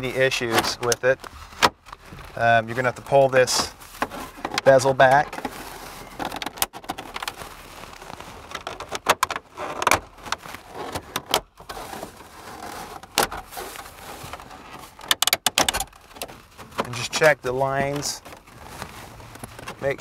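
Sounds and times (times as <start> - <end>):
hard plastic parts clicking and rubbing: 0.0 - 20.0.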